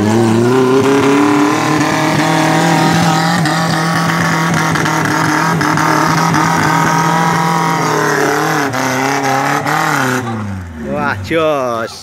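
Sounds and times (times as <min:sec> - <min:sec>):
engine at steady revs under load: 0:00.0 - 0:11.7.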